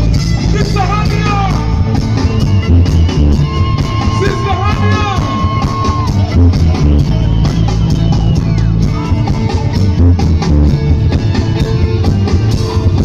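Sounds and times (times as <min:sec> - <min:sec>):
high folk melody: 0:00.0 - 0:13.0
live reggae band: 0:00.0 - 0:13.0.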